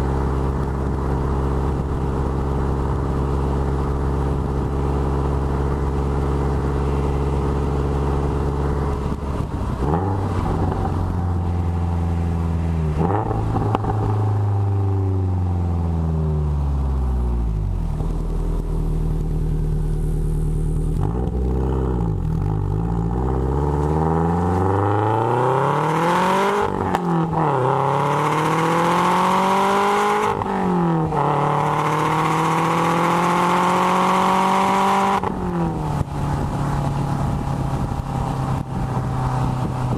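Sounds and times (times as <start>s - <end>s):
car exhaust during acceleration: 0.0s - 39.9s.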